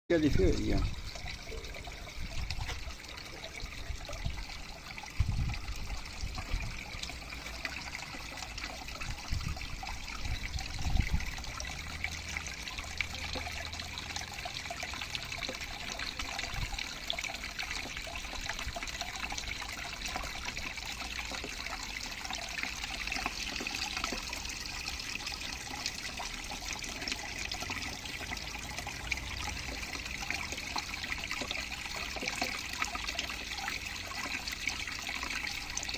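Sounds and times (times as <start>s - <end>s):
water trickling from waterfall: 0.1s - 35.9s.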